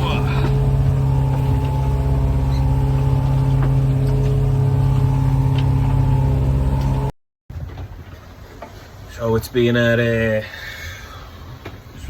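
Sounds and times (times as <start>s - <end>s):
boat engine running steadily: 0.0s - 12.0s.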